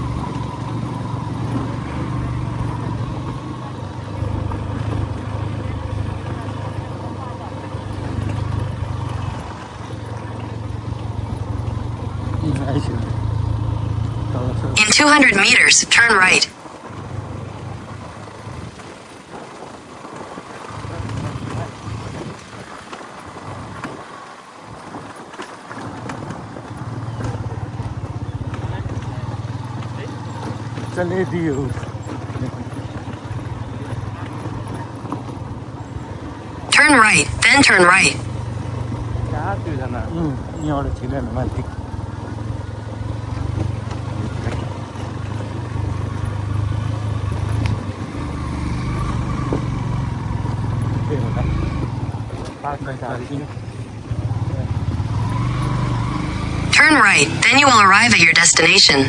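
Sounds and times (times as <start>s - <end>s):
vehicle engine running: 0.0s - 14.8s, 25.8s - 59.0s
road noise: 0.0s - 59.0s.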